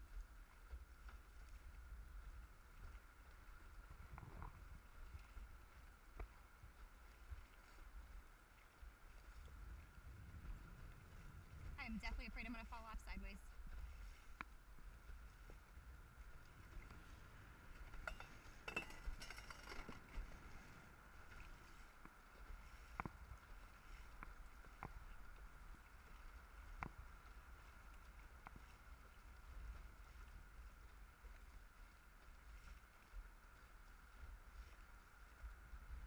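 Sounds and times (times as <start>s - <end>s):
wind on microphone: 0.0s - 31.5s, 34.1s - 36.0s.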